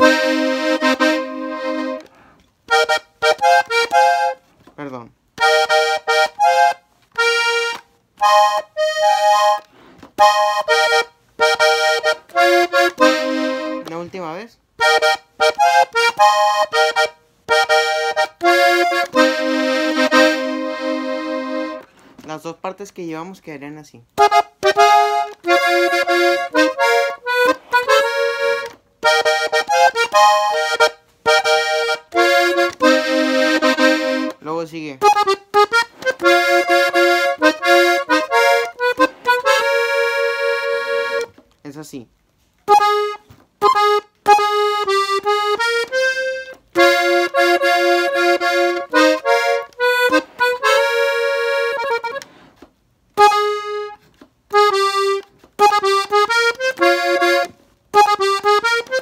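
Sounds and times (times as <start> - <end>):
button accordion melody: 0.0 - 22.3, 24.2 - 41.5, 42.6 - 59.0.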